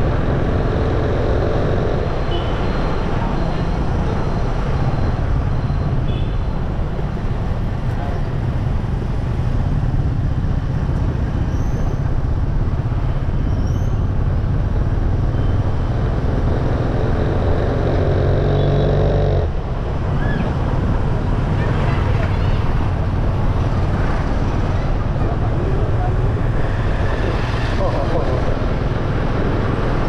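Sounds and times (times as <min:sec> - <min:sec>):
road and wind rush: 0:00.0 - 0:30.0.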